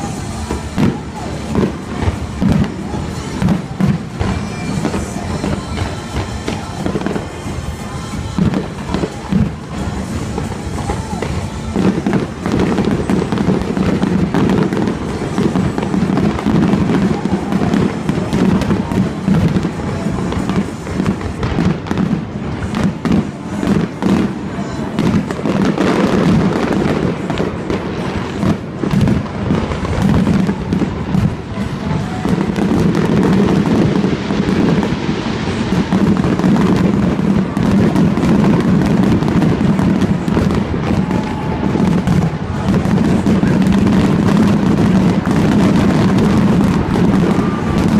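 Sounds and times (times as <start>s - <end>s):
fireworks bangs and crackles: 0.0s - 47.9s
music playing: 0.0s - 47.9s.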